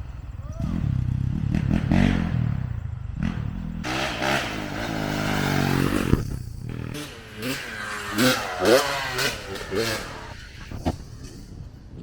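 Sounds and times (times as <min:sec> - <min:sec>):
dirt bike engine running: 0:00.8 - 0:10.8.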